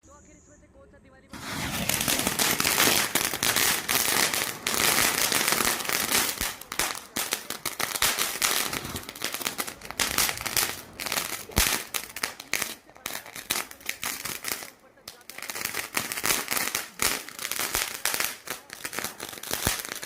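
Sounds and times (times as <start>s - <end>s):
firecracker fizzing and crackling: 1.3s - 20.0s.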